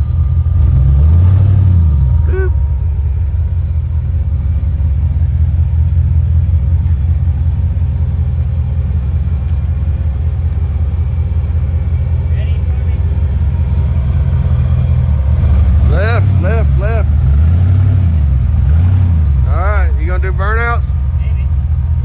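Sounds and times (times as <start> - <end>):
pickup engine running low: 0.0 - 22.0.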